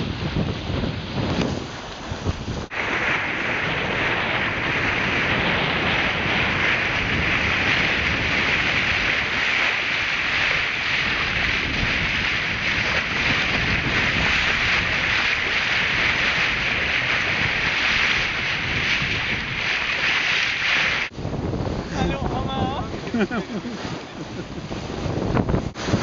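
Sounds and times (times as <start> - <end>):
water rushing along hull: 0.0 - 26.0
wind on microphone: 0.0 - 26.0.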